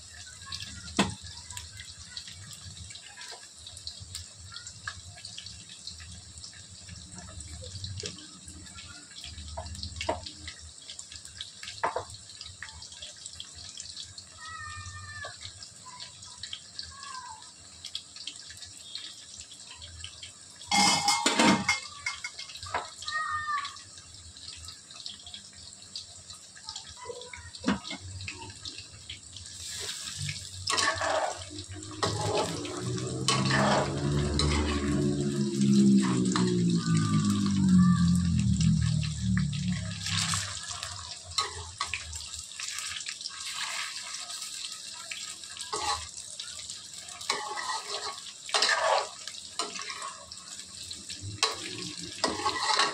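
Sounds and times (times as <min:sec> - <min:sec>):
oil sizzling while deep-frying: 0:00.0 - 0:52.9.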